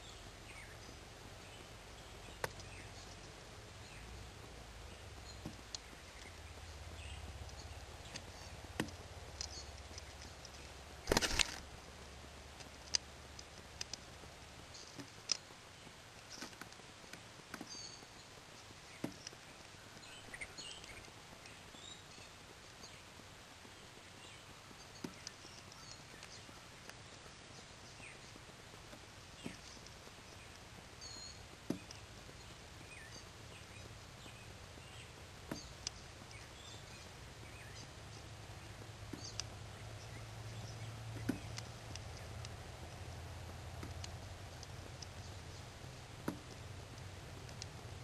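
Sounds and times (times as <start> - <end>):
birds pecking at seed: 0.0 - 48.0.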